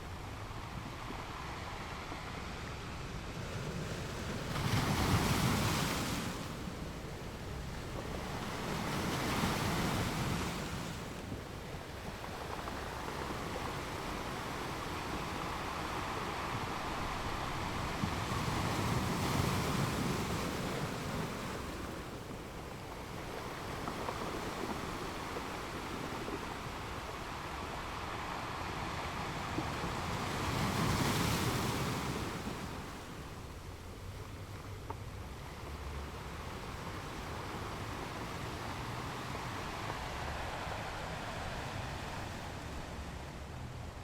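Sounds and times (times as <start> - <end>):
ocean waves washing: 0.0 - 44.0.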